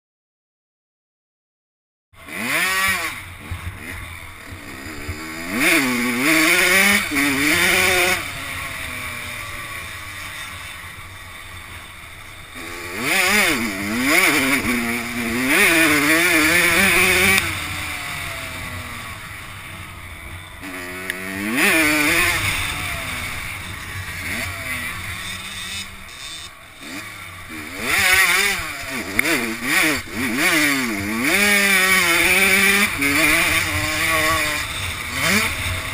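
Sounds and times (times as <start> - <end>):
dirt bike engine revving: 2.2 - 35.9.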